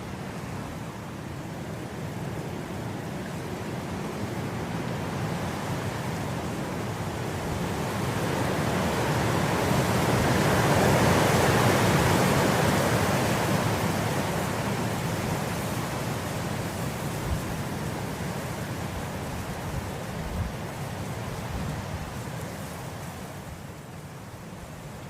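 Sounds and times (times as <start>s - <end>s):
wind blowing through grass: 0.0s - 25.0s.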